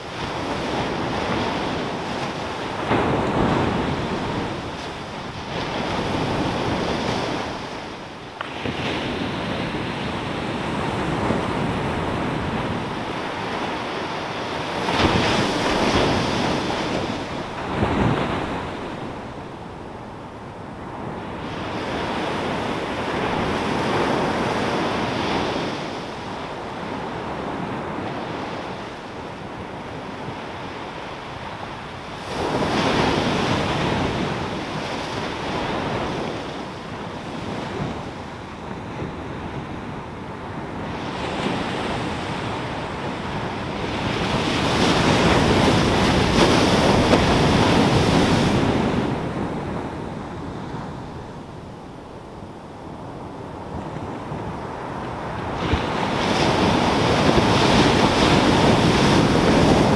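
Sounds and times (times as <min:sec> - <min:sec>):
waves breaking on sandy beach: 0:00.0 - 0:59.9.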